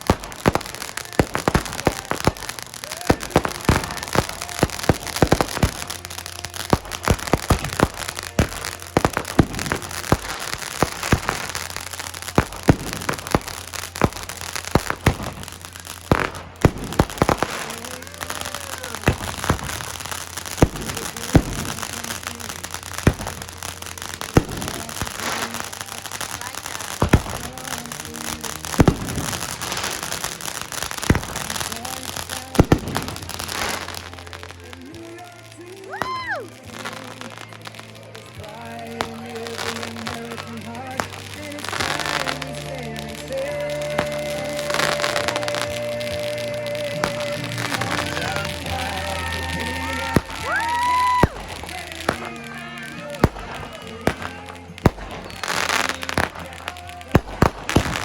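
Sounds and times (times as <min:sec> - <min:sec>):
background music: 0:00.0 - 0:58.0
fireworks bangs and crackles: 0:00.0 - 0:58.0.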